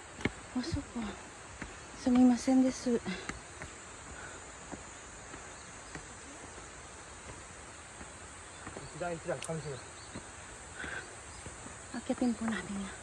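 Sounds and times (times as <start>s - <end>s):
footsteps on stone steps: 0.0s - 13.0s
high-pitched insect chorus: 0.0s - 13.0s.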